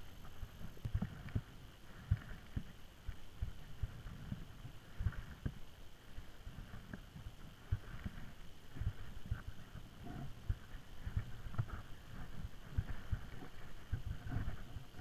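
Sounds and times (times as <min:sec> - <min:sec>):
dull low thumps on camera: 0:00.0 - 0:15.0
faint rustle: 0:00.0 - 0:15.0.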